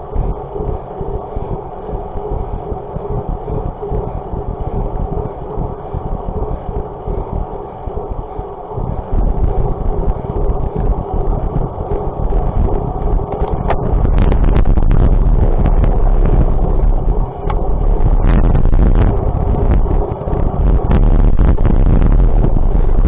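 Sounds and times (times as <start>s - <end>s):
vehicle low rumble: 0.0s - 23.0s
wind on microphone: 0.0s - 23.0s.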